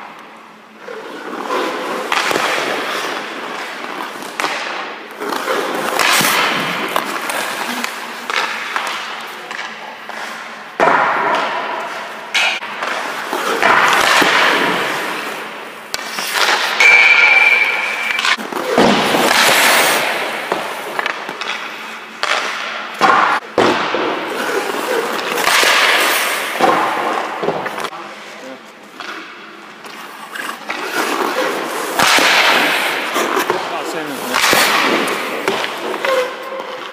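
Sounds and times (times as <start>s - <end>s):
pucks cracking off stick: 0.0s - 28.1s, 28.9s - 36.9s
skates scraping across ice: 0.8s - 23.4s, 24.0s - 36.9s.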